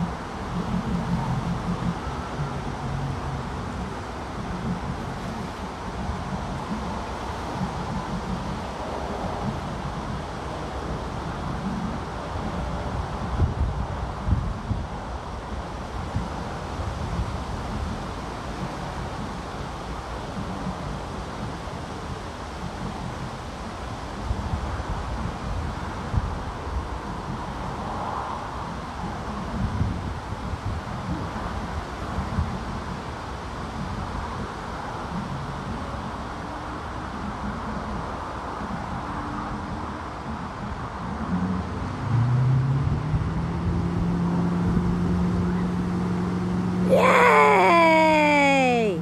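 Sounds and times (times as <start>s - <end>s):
wind noise on microphone: 0.0s - 46.8s.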